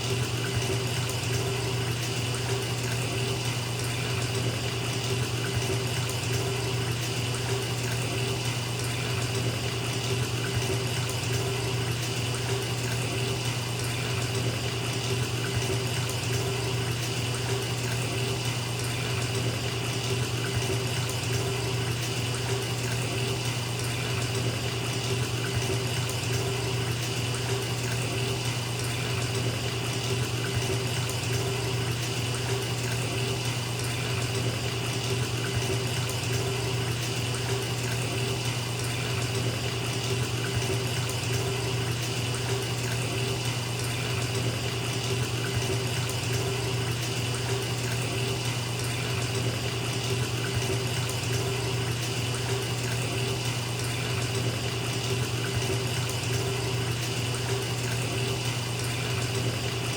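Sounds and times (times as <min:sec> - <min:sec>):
water pouring into bathtub: 0:00.0 - 0:59.9.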